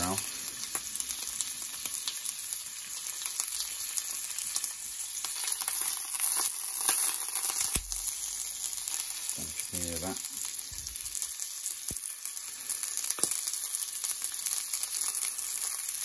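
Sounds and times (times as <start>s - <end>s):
steak sizzling in hot oil: 0.0s - 16.0s.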